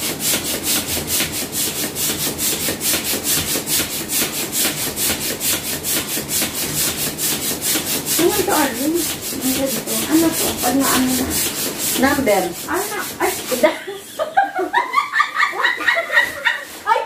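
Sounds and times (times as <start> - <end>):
balloon pump hissing: 0.0 - 17.0.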